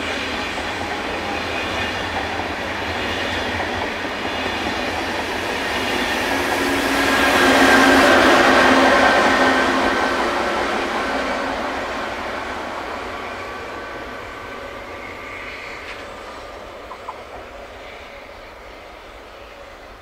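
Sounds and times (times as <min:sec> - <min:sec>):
high-speed train rushing: 0:00.0 - 0:20.0.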